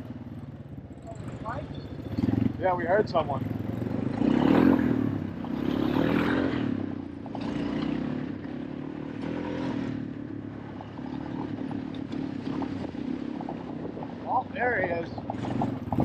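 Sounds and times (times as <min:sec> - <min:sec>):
small vehicle engine revving: 0:01.2 - 0:14.1, 0:15.1 - 0:16.0.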